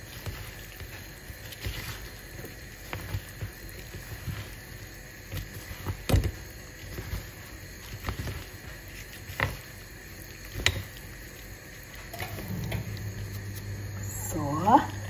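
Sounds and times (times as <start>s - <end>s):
seafood rustling in flour: 0.0s - 15.0s.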